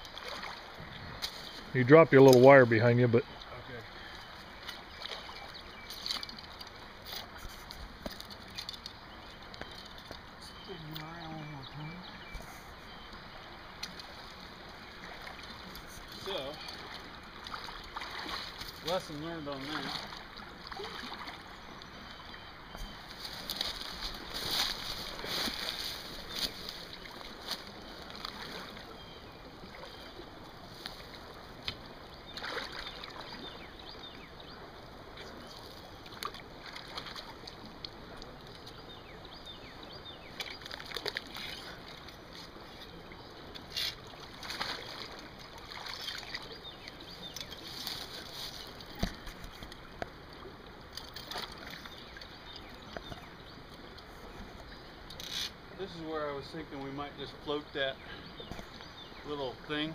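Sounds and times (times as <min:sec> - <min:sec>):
person wading in water: 0:00.0 - 0:01.7, 0:02.3 - 0:54.9
water sloshing and splashing: 0:00.0 - 0:59.9.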